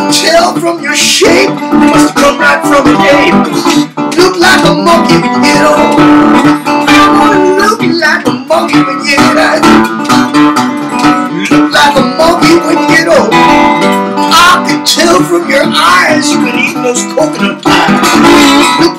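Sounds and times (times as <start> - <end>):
slide guitar notes: 0.0 - 18.9.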